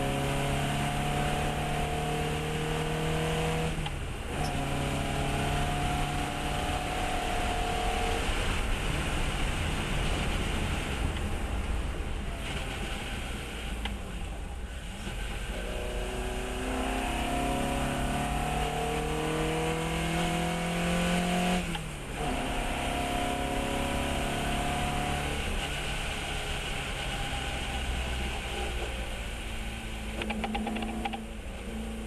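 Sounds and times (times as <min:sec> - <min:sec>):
race car engine revving: 0:00.0 - 0:09.2, 0:15.0 - 0:32.0
wind and road noise: 0:00.0 - 0:32.0.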